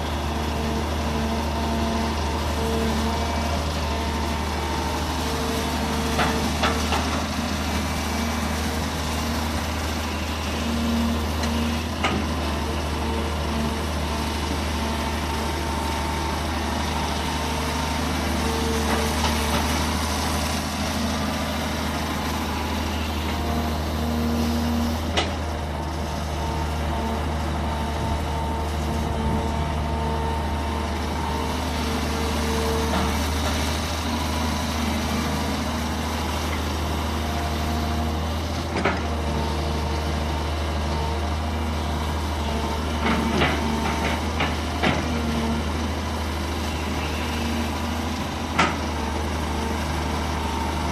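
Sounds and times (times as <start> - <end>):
excavator diesel engine: 0.0 - 50.9
hydraulic whining: 0.0 - 50.9.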